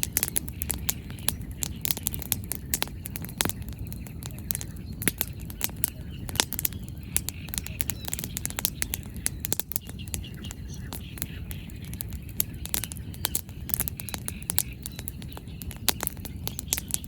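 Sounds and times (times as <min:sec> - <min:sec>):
firewood crackling and popping: 0:00.0 - 0:17.0
low steady fire rumble: 0:00.0 - 0:17.0.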